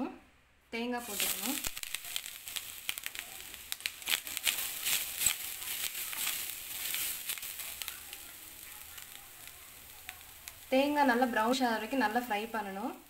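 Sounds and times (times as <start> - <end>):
coconut frying in oil: 0.8 - 13.0
wooden spatula stirring: 1.0 - 12.0.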